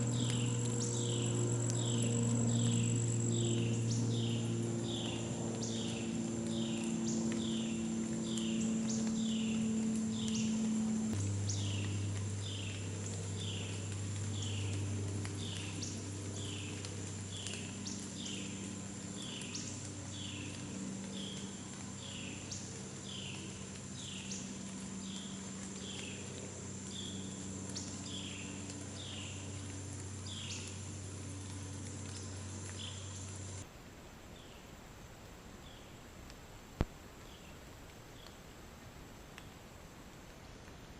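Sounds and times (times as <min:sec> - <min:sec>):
high insect whine: 0:00.0 - 0:33.6
low steady hum: 0:00.0 - 0:40.9.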